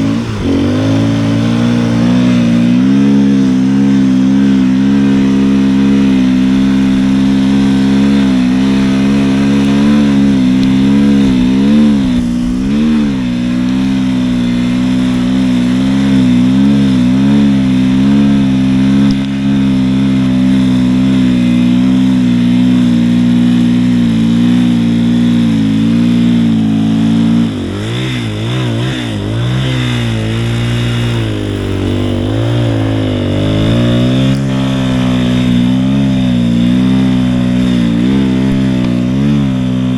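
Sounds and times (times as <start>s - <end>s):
snowbike engine revving under load: 0.0s - 39.9s.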